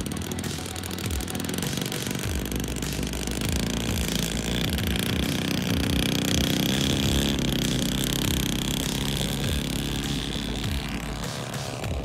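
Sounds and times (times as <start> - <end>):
model plane engine running: 0.0 - 12.0.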